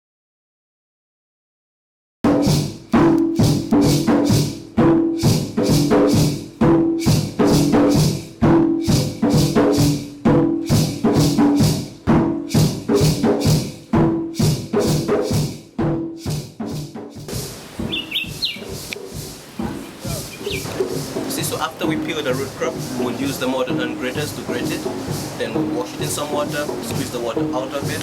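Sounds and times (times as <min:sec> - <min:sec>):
pitched drum beats: 0:02.2 - 0:28.0.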